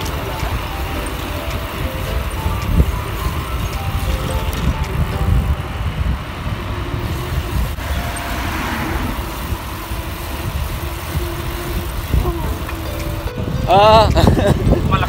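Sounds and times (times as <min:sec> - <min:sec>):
road hiss: 0:00.0 - 0:15.0
wind buffeting microphone: 0:00.0 - 0:15.0.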